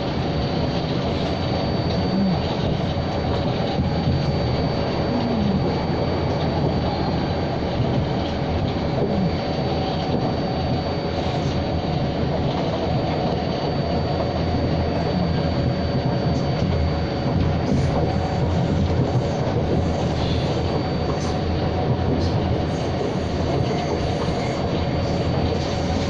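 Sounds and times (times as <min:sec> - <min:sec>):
rumble of train wheels on rail: 0:00.0 - 0:26.0.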